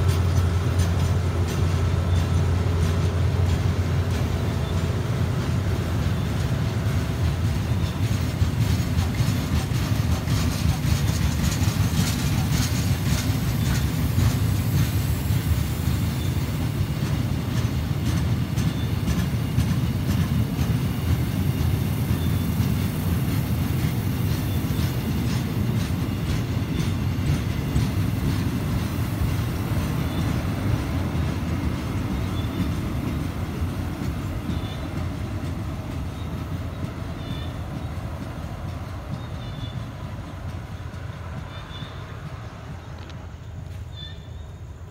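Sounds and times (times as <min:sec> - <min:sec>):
wheels clicking over rail joints: 0:00.0 - 0:44.4
freight train rumbling past: 0:00.0 - 0:44.9.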